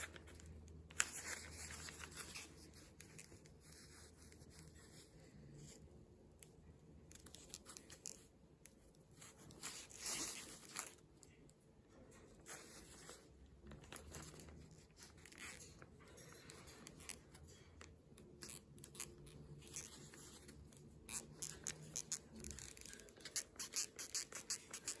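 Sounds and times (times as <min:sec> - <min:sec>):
plastic headband creaking: 0:00.0 - 0:05.8, 0:06.4 - 0:25.0.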